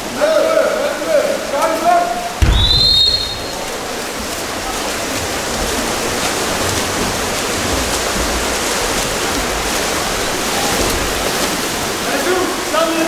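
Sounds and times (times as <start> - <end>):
water rushing and splashing: 0.0 - 13.0
sharp splashes: 2.1 - 13.0.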